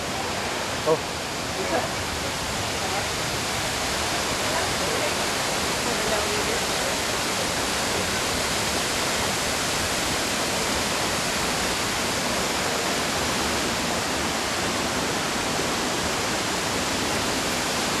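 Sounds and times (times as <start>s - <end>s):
waterfall crashing: 0.0s - 18.0s.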